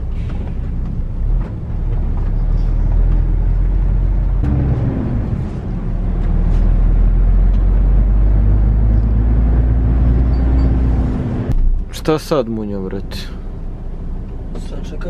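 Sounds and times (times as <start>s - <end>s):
road noise: 0.0s - 15.0s
truck diesel engine drone: 0.0s - 15.0s.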